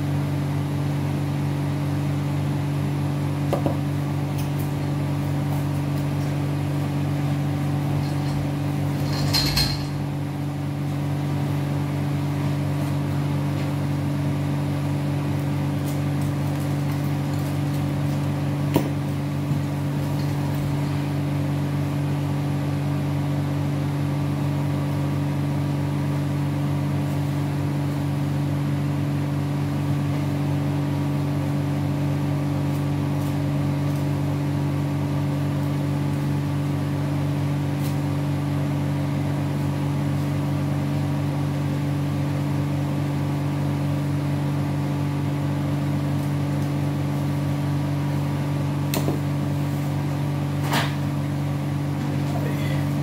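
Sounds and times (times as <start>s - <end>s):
refrigeration unit humming: 0.0s - 53.0s.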